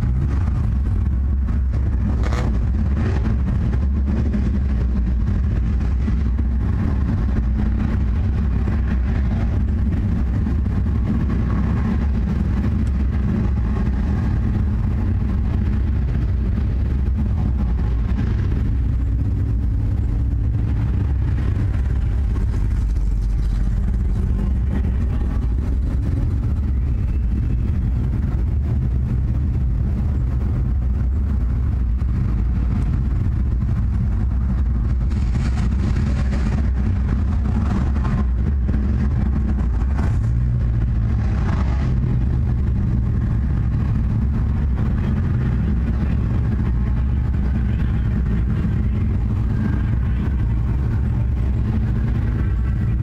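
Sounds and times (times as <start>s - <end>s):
race car engine idling: 0.0s - 53.0s.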